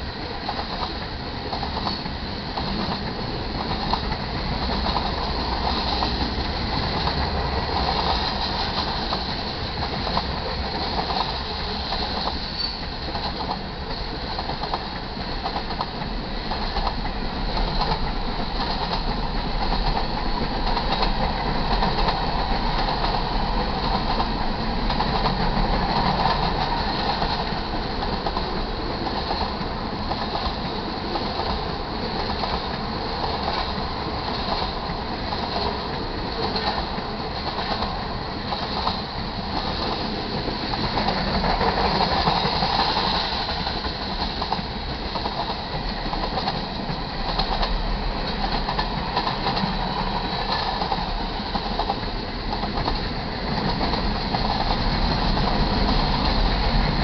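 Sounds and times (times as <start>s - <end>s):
train wheels rumbling on rail: 0.0s - 57.0s
wheels clacking over rail joints: 0.0s - 57.0s.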